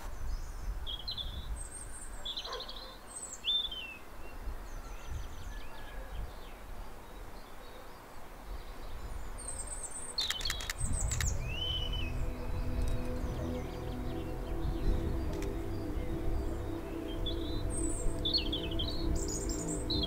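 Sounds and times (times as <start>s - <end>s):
wild birds singing: 0.2s - 20.0s.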